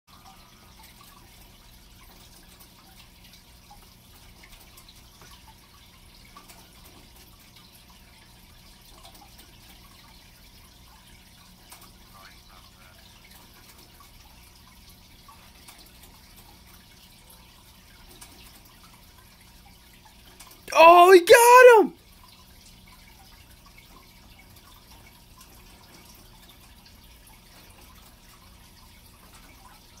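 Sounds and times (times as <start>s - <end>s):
aquarium water bubbling: 0.1s - 20.6s, 22.0s - 30.0s.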